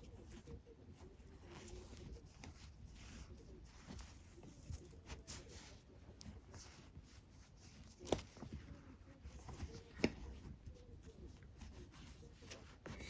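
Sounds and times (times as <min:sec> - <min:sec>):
cord rustling: 0:00.0 - 0:13.0.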